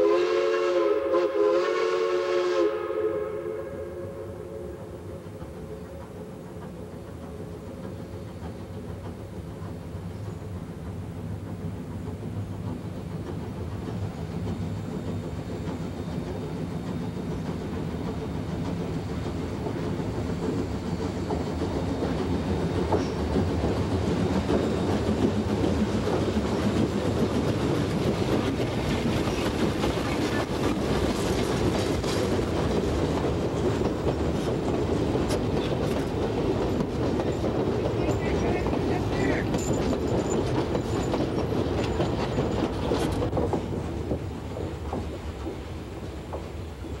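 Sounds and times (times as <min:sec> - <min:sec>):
steam train rumbling on rails: 0:00.0 - 0:47.0.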